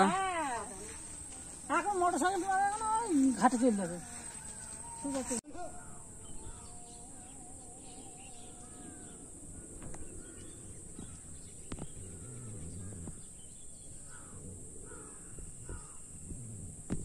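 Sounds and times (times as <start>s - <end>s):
birds chirping and whistling: 0.6s - 14.2s.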